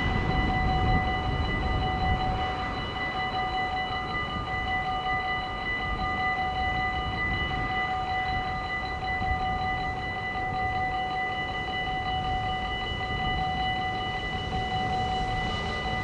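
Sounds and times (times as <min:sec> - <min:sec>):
level-crossing bell ringing: 0:00.0 - 0:16.0.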